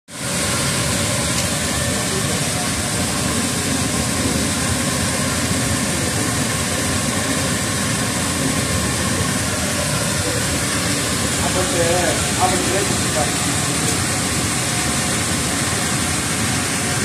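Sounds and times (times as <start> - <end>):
polishing machine running with hiss: 0.1 - 17.0.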